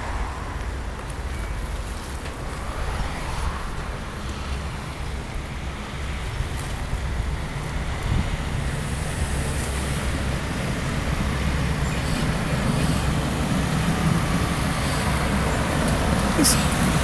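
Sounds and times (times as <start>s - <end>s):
railcar diesel engine rumble: 0.0s - 17.0s.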